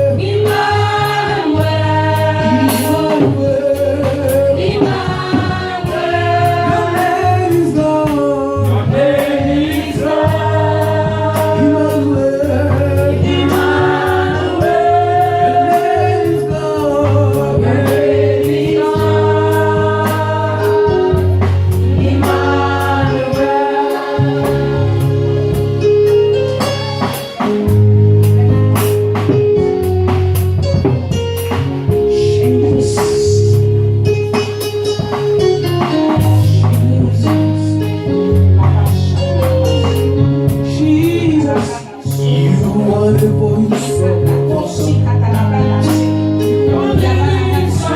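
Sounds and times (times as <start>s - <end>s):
people singing gospel: 0.0s - 27.7s, 31.8s - 47.9s
band with bass and drums: 0.0s - 47.9s.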